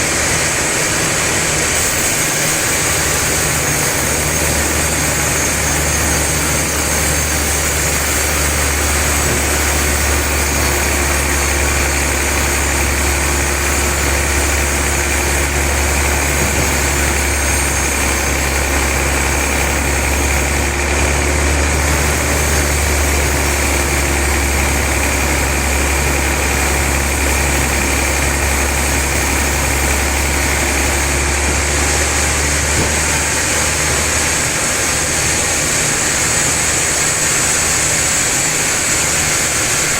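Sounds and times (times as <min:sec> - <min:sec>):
log saw sawing a log: 0:00.0 - 0:39.9.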